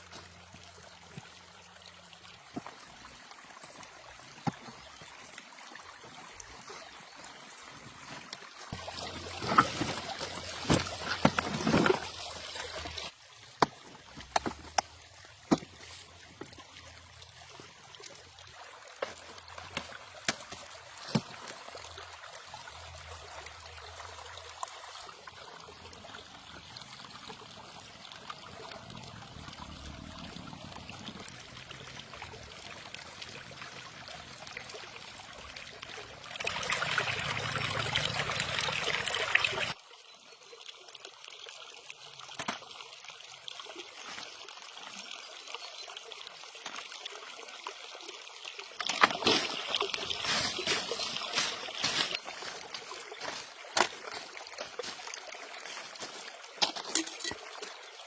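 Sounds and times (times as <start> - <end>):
rushing water: 0.0 - 58.0
water trickling and splashing: 0.0 - 58.0.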